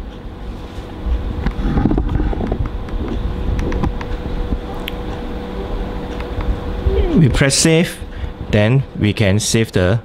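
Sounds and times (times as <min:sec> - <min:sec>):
low room rumble: 0:00.0 - 0:10.0
thin steady hum: 0:00.0 - 0:10.0.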